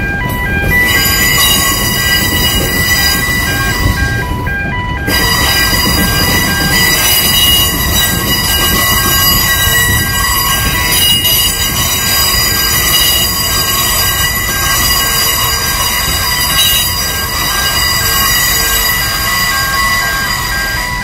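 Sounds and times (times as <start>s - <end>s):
train wheels rumbling on rails: 0.0s - 21.0s
high-pitched wheel squeal: 0.6s - 4.3s, 5.1s - 21.0s.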